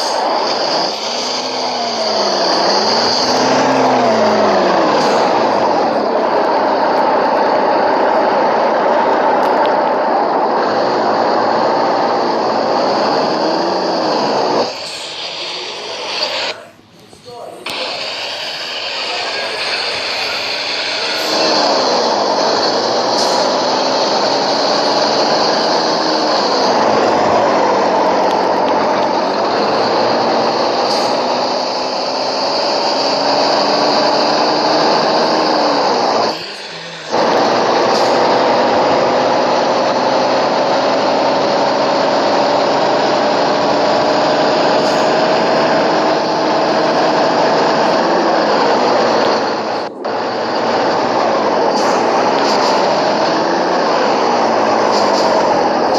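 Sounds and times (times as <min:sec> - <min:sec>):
engine running loudly: 0:00.0 - 0:16.6, 0:17.6 - 0:55.9.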